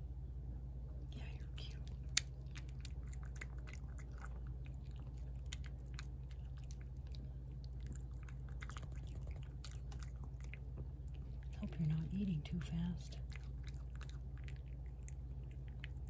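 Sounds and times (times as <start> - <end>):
low steady hum: 0.0 - 16.0
cat chewing wet food: 1.6 - 16.0.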